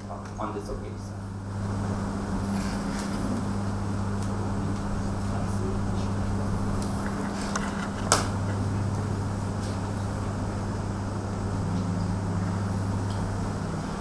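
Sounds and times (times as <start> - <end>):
constant hiss: 0.0 - 14.0
low electrical hum: 0.0 - 14.0.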